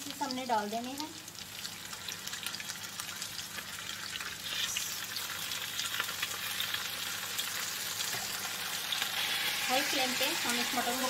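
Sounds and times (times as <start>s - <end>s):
meat sizzling in hot fat: 0.0s - 11.0s.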